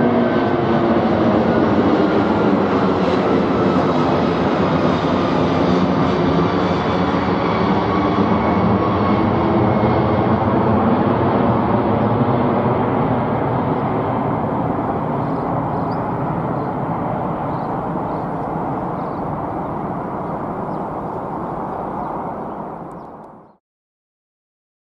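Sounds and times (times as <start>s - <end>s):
jet engine rush: 0.0s - 23.6s.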